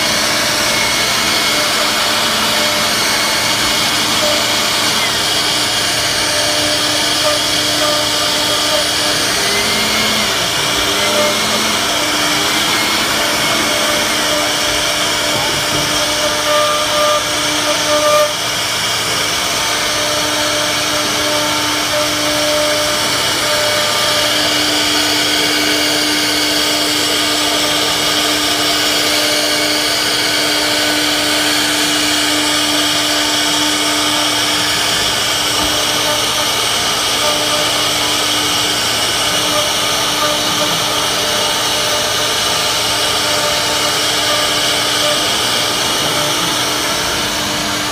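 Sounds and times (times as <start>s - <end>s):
hiss of wood cutting: 0.0s - 47.9s
router spindle whining: 0.0s - 47.9s.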